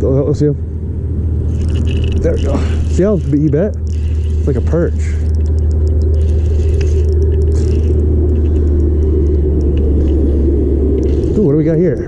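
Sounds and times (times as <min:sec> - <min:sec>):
boat motor humming: 0:00.8 - 0:12.0.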